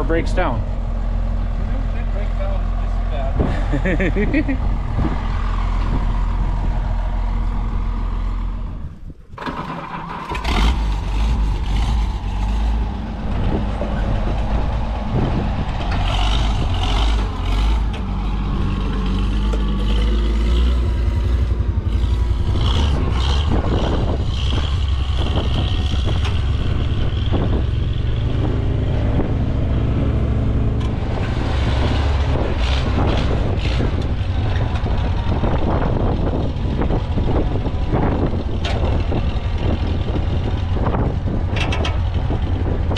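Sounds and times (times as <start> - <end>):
tractor engine rumbling: 0.0 - 42.9.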